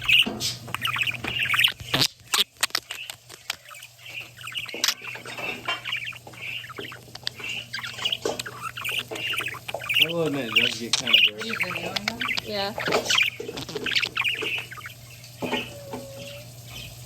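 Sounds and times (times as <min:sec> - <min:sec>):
bird squawks and chirps: 0:00.0 - 0:17.0
pet birds chattering: 0:00.0 - 0:17.0.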